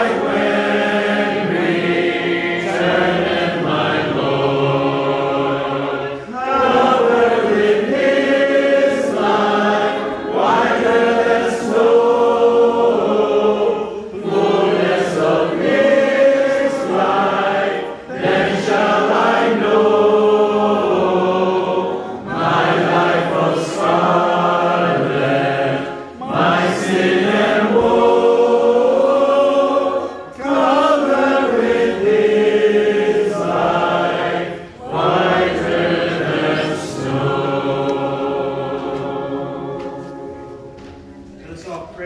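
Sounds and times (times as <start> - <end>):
congregation singing a hymn: 0.0 - 41.9.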